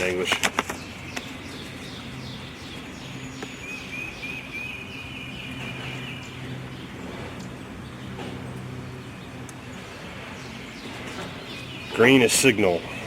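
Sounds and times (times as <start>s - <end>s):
bird chirping: 0.0s - 13.0s
steady low hum: 0.0s - 13.0s.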